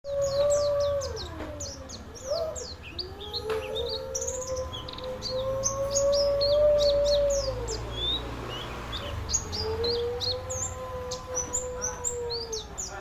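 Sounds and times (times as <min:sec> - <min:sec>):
bird singing high chirps: 0:00.0 - 0:13.0.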